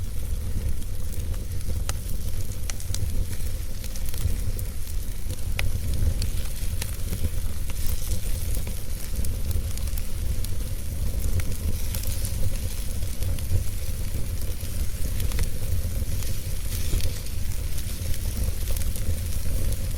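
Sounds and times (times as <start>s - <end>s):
wood fire crackling and hissing: 0.0s - 19.9s.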